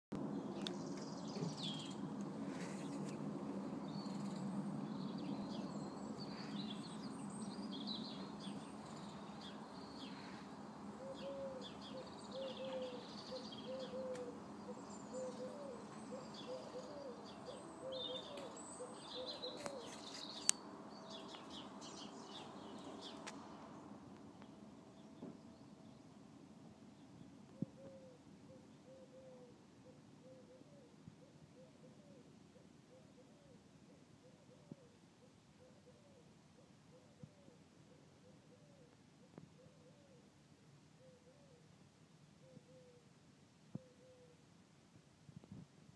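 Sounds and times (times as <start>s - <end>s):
birds singing: 0.2s - 40.2s.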